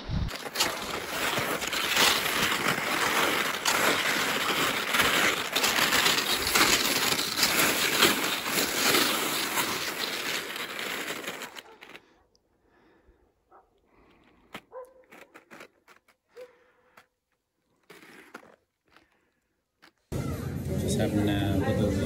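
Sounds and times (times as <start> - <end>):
skis crunching over icy snow: 0.3 - 12.2, 14.0 - 20.1.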